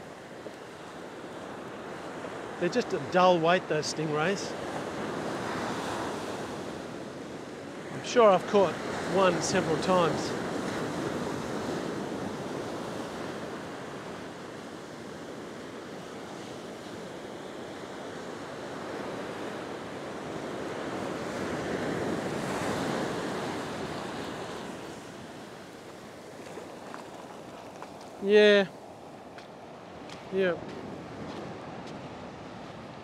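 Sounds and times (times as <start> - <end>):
surf washing onto beach: 0.0 - 28.7.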